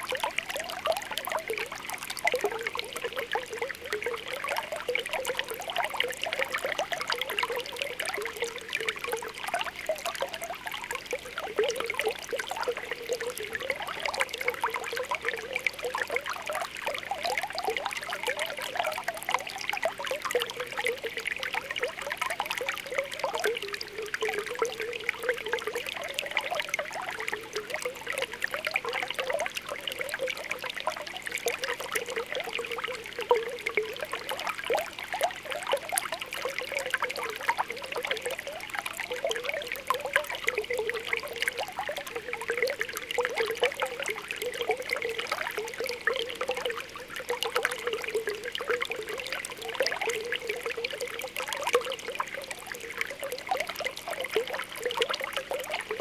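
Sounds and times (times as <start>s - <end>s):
spring water bubbling: 0.0s - 56.0s
water trickling: 0.0s - 56.0s.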